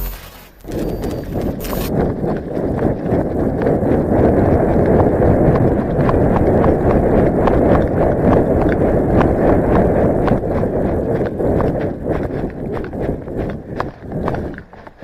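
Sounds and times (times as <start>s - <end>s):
dense steady rustling: 0.0s - 15.0s
running footsteps on frozen ground: 0.0s - 15.0s.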